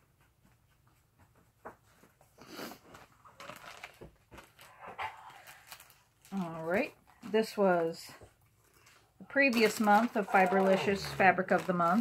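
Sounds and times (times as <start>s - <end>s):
fabric and packaging rustling: 1.6s - 12.0s.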